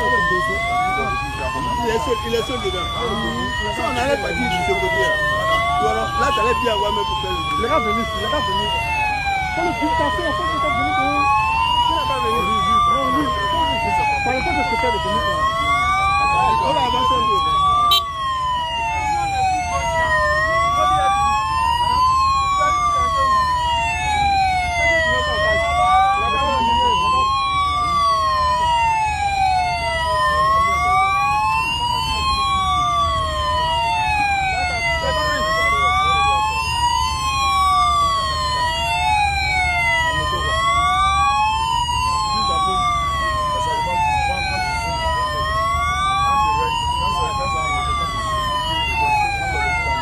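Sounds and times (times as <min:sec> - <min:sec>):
sirens wailing: 0:00.0 - 0:50.0.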